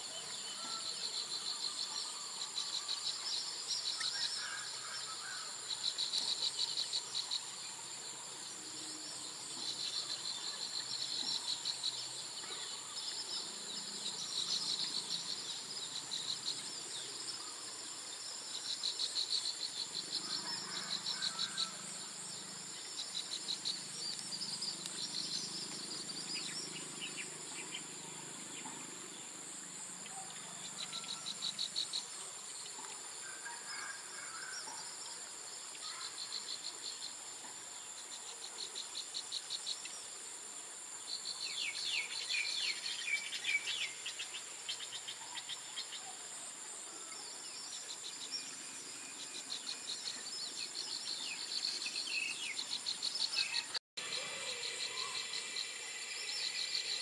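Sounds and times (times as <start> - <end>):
high drone of insects: 0.0 - 57.0.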